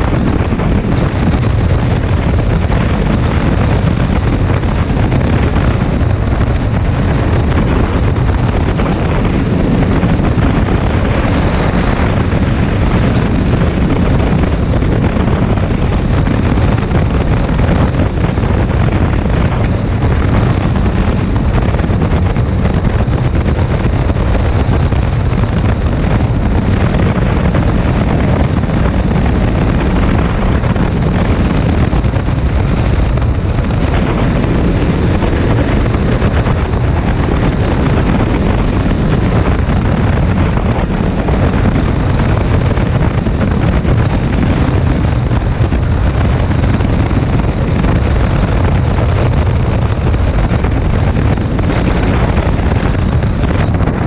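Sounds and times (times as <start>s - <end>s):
atv engine running: 0.0s - 54.0s
wind buffeting microphone: 0.0s - 54.0s.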